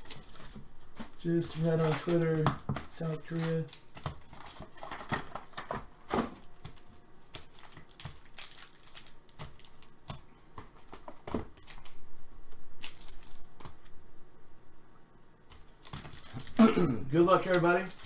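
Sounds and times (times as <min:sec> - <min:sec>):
wrappers rustling and tearing: 0:00.0 - 0:14.0, 0:15.5 - 0:18.0.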